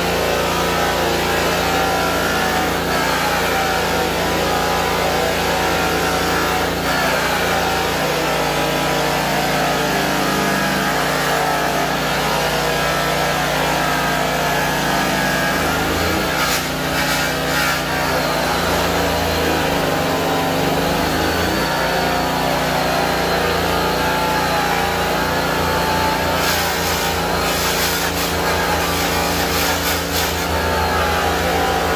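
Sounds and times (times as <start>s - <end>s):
sander whining on metal: 0.0s - 31.9s.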